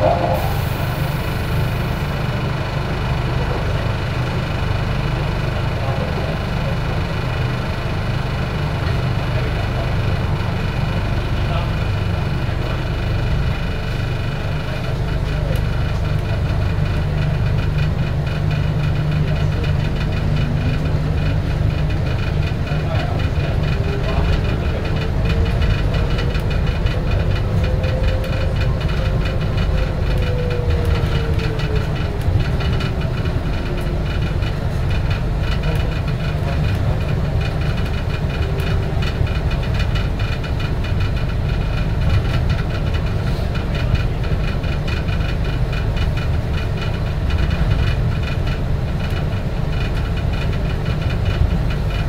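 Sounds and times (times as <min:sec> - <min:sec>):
people-mover car rumbling: 0:00.0 - 0:52.0.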